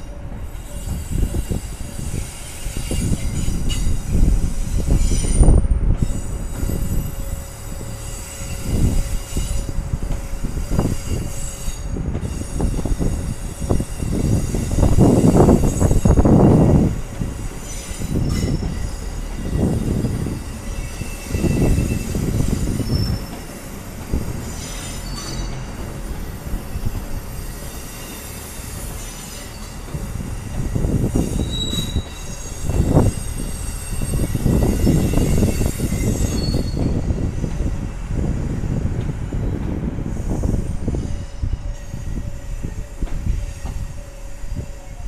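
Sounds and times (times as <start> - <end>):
low train rumble: 0.0 - 45.0
train wheels squealing on rails: 0.0 - 45.0.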